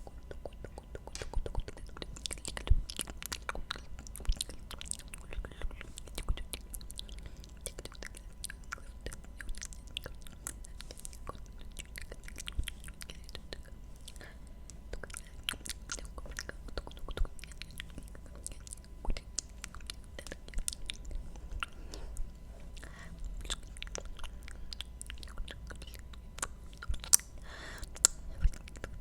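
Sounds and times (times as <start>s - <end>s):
wet mouth clicks and smacks: 0.0s - 22.0s, 22.8s - 29.0s
soft breathing: 5.2s - 29.0s.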